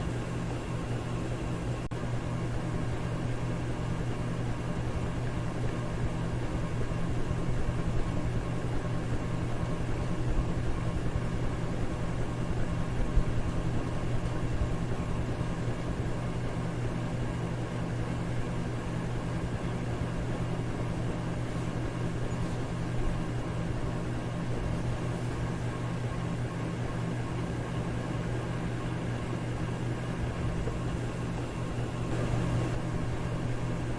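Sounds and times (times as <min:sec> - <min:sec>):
electric fan running: 0:00.0 - 0:33.9.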